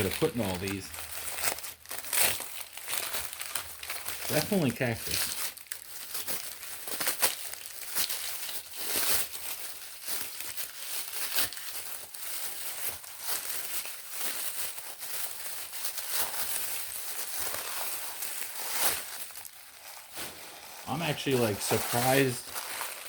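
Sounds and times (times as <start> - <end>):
packing material crinkling: 0.0 - 23.0.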